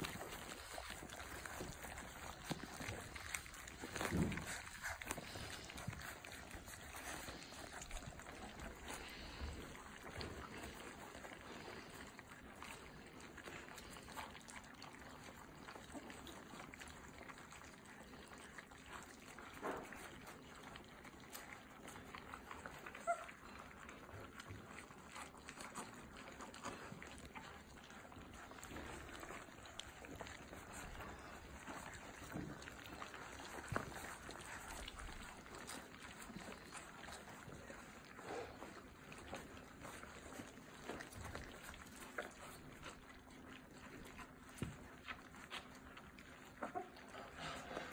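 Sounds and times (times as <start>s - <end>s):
puppies lapping wet food: 0.0s - 47.9s.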